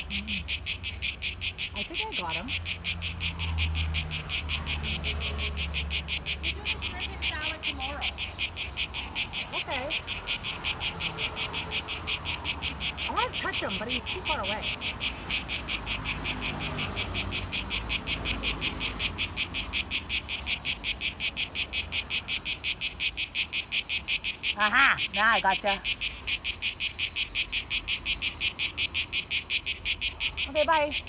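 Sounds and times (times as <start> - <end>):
cicada buzzing: 0.0 - 31.0.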